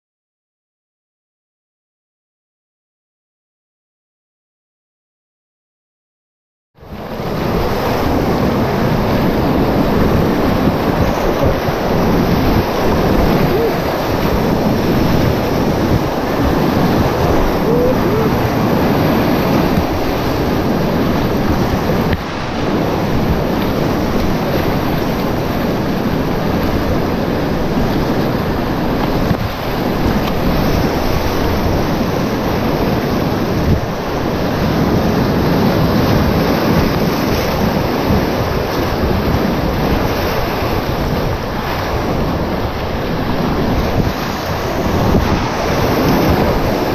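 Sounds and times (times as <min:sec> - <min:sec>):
river rapids rushing: 0:07.0 - 0:46.9.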